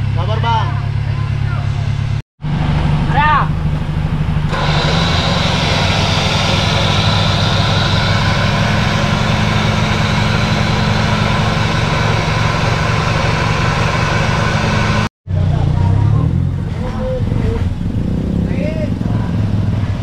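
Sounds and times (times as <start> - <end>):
vehicle engine running steadily: 0.0 - 20.0.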